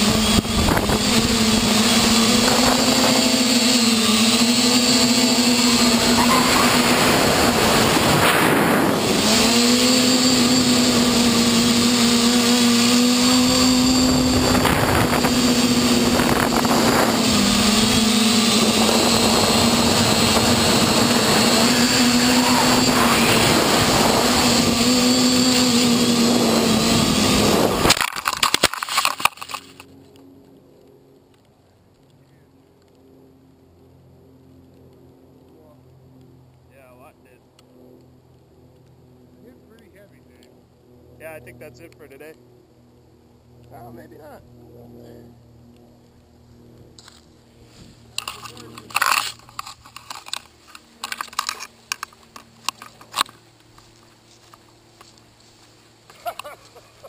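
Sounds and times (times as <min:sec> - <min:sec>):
drone motors whining: 0:00.0 - 0:33.0, 0:37.0 - 0:57.0.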